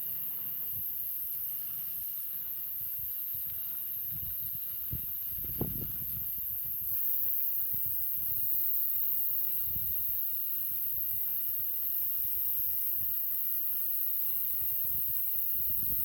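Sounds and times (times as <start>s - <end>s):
meat sizzling over campfire: 0.0s - 16.0s.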